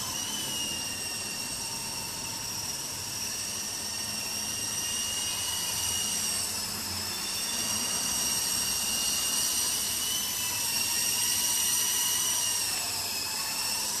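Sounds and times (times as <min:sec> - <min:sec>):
rc helicopter motors whining: 0:00.0 - 0:14.0.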